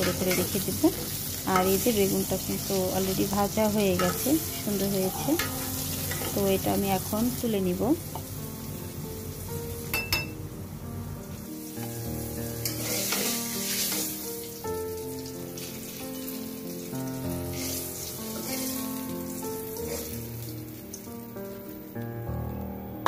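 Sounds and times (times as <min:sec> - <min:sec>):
hot oil sizzling in a frying pan: 0:00.0 - 0:22.0
background music of held notes: 0:00.0 - 0:23.0.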